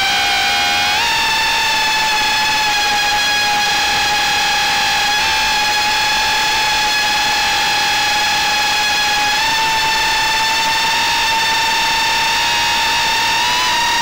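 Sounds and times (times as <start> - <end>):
quadcopter high-pitched whine: 0.0 - 14.0.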